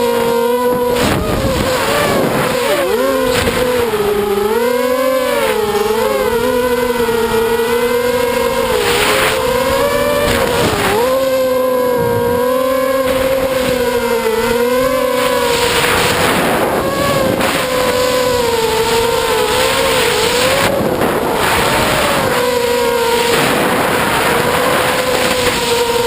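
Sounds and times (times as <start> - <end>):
drone motors whining: 0.0 - 26.0
rushing wind noise: 0.0 - 26.0.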